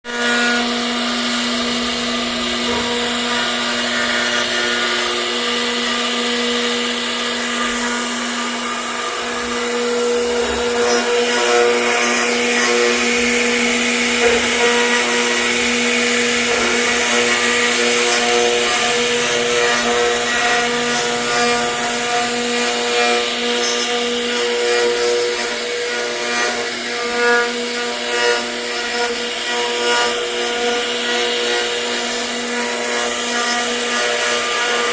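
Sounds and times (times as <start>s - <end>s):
cnc router spindle running: 0.1s - 34.9s.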